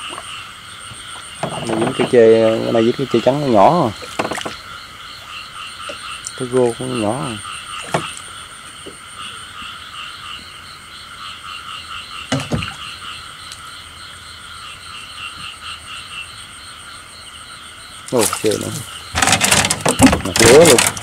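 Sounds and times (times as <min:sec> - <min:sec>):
frogs croaking: 0:00.0 - 0:21.0
high-pitched insect trill: 0:00.0 - 0:21.0.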